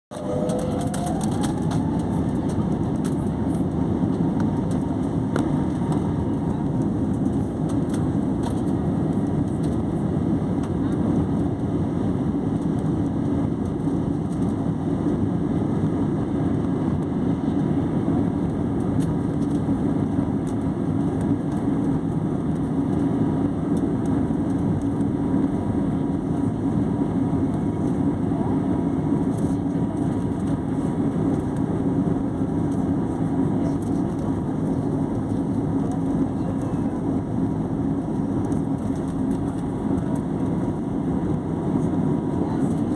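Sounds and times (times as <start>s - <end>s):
airliner engines running: 0.1s - 42.9s.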